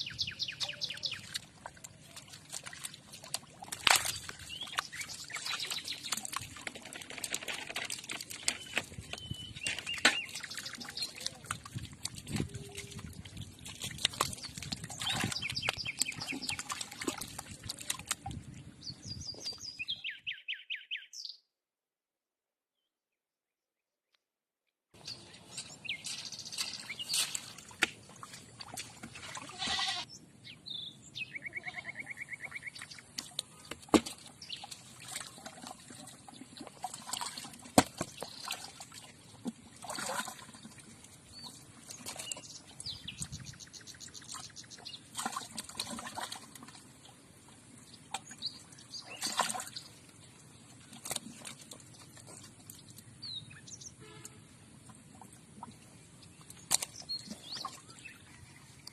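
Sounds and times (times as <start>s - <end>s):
water splashing and pouring: 0.0s - 19.7s, 25.0s - 30.0s, 32.6s - 58.9s.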